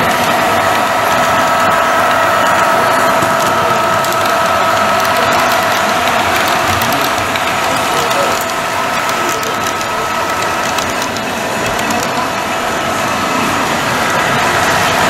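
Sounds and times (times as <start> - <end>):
model locomotive mechanical whine: 0.0 - 15.0.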